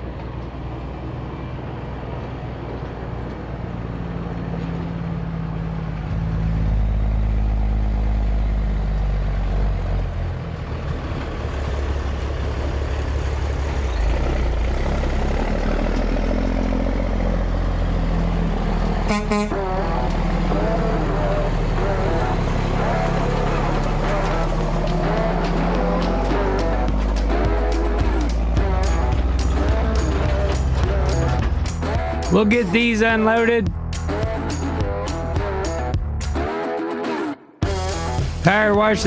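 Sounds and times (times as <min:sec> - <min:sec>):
heavy truck engine running: 0:00.0 - 0:36.5, 0:37.6 - 0:39.0.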